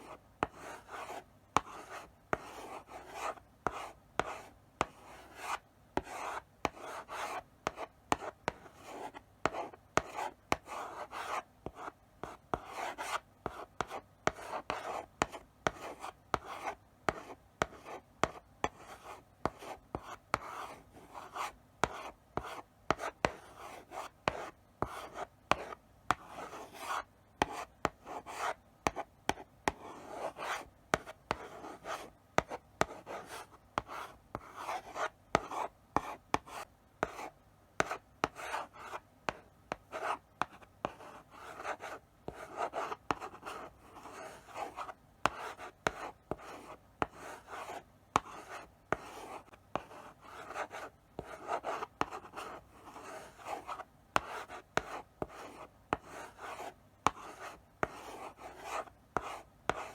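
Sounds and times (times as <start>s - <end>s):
chalk scratching on blackboard: 0.1s - 59.9s
chalk tapping on board: 0.4s - 20.6s, 21.3s - 59.9s.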